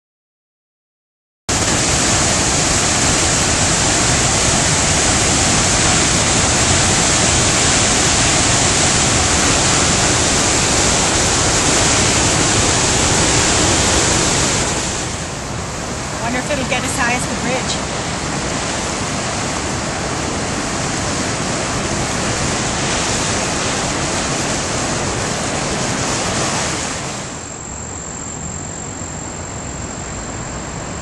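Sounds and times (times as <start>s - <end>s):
river rushing through rapids: 1.5s - 31.0s.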